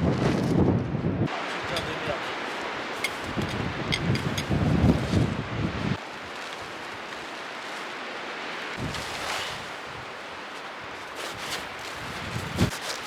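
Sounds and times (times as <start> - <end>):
strong wind blowing: 0.0 - 6.0, 8.0 - 12.8.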